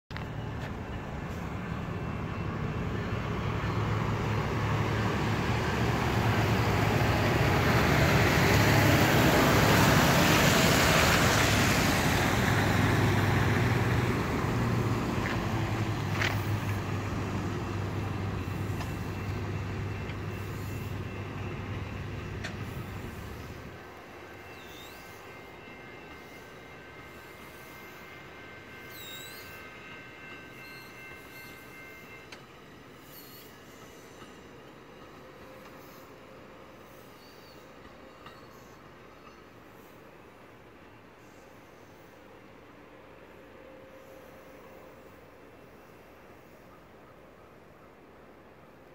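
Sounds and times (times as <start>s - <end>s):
locomotive engine hum: 0.1s - 48.9s
train rumbling past: 0.1s - 48.9s.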